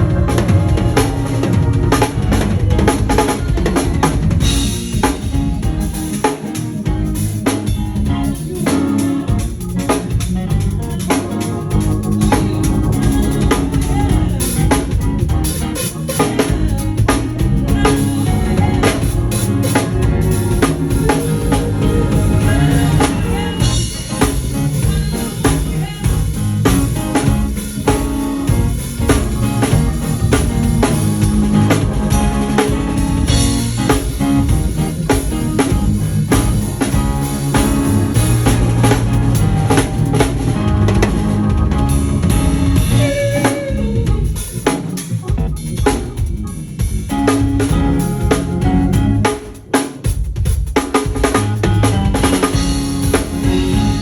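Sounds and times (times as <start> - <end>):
backing music with low notes: 0.0 - 54.0
drum solo: 0.0 - 54.0.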